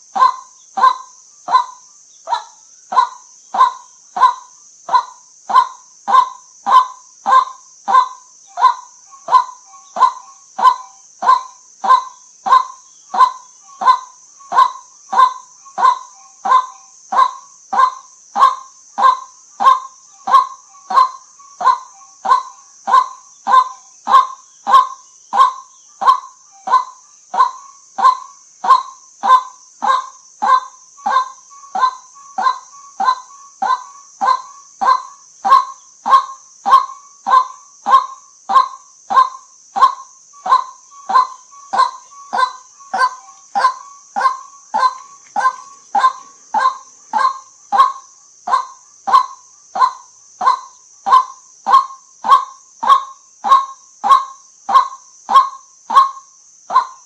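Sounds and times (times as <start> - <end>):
steady high hiss: 0.0 - 57.0
waterhen calling: 0.2 - 57.0.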